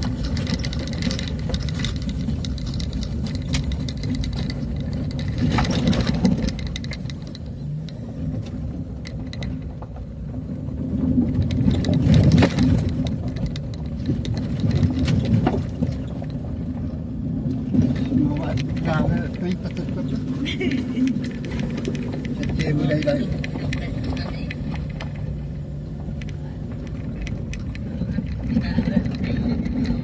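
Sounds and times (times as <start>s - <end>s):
knocks and rattles: 0.0s - 30.0s
vehicle engine and road rumble: 0.0s - 30.0s.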